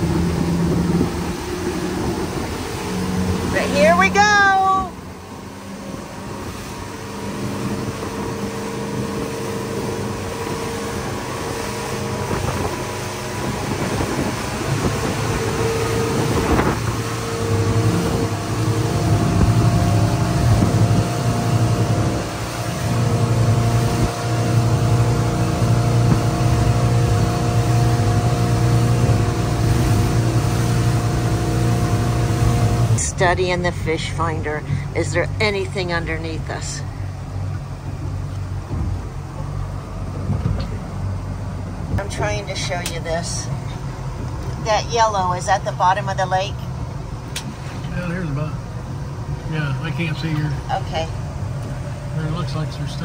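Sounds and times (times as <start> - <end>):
boat engine hum: 0.0 - 53.0.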